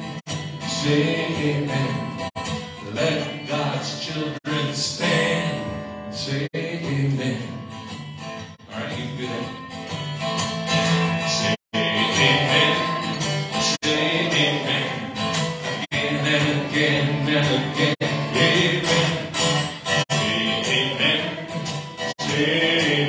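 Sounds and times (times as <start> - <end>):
man singing: 0.0 - 7.7, 8.6 - 9.6, 11.0 - 23.0
acoustic guitar strumming: 0.0 - 23.0.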